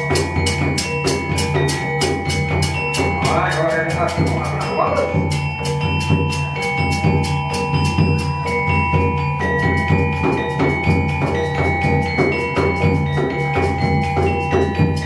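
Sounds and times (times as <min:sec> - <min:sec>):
ringing metallophone notes: 0:00.0 - 0:15.0.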